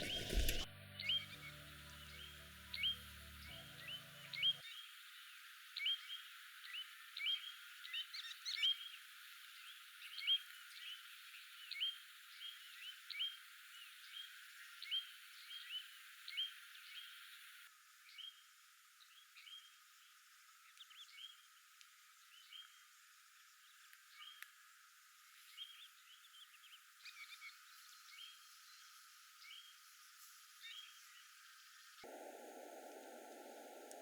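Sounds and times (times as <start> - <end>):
muffled hiss: 0.0 - 34.0.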